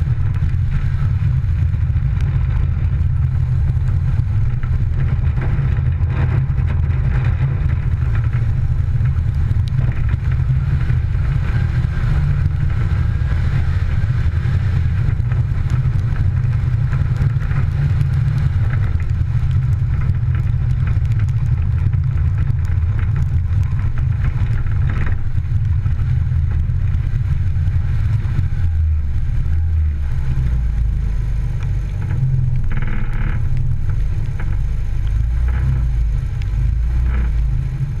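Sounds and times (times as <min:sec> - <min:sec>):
gravel noise: 0:00.0 - 0:38.0
rally car engine running: 0:00.0 - 0:38.0
wind rumble on microphone: 0:00.0 - 0:38.0.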